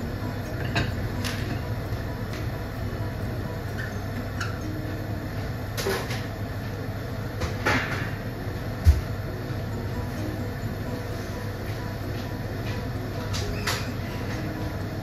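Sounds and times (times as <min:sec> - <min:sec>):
stew boiling with low rumble: 0:00.0 - 0:15.0.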